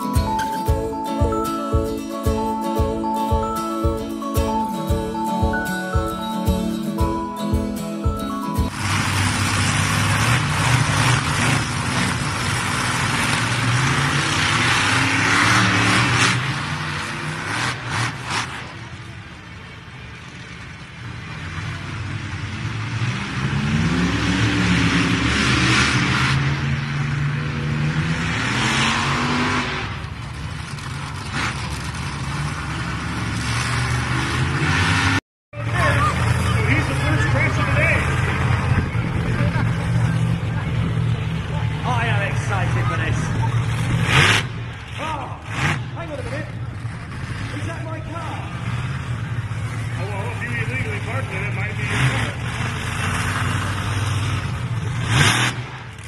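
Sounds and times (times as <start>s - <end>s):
truck engines revving hard: 0.0s - 56.0s.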